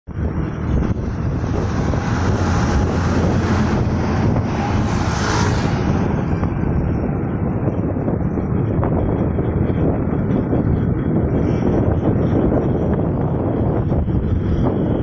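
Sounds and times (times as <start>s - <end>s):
traffic rumble: 0.0s - 15.0s
dump truck passing: 0.1s - 15.0s
wind on microphone: 0.1s - 15.0s.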